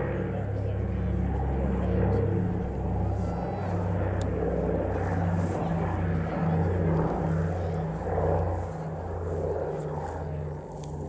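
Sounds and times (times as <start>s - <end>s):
aircraft engines droning: 0.0s - 11.0s.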